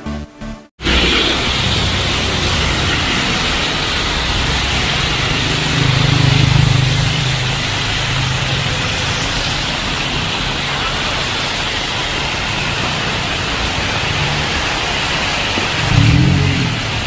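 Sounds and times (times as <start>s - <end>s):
heavy rain on a street: 0.8s - 17.0s
vehicle passing: 0.8s - 17.0s.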